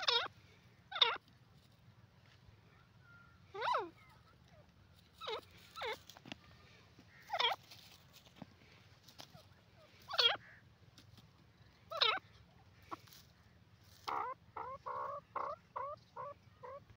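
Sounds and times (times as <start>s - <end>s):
bird calling: 0.0s - 1.3s, 2.7s - 10.7s, 11.5s - 17.0s.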